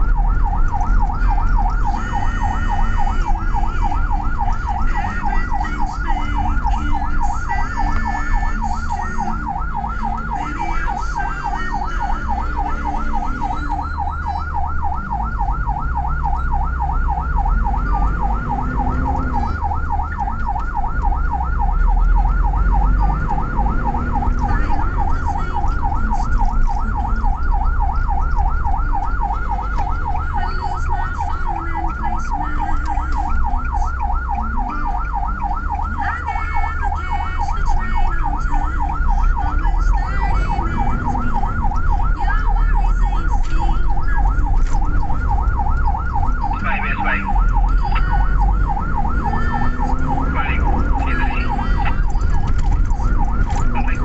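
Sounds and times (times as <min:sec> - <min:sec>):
engine and road rumble: 0:00.0 - 0:54.0
siren yelping: 0:00.0 - 0:54.0.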